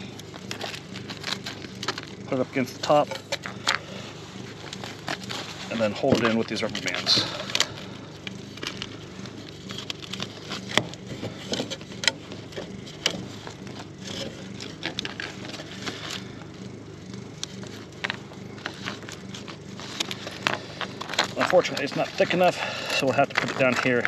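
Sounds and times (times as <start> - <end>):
rubber bands stretching: 0.0 - 16.5, 17.5 - 24.0
hands working a wooden hive frame: 0.0 - 24.0.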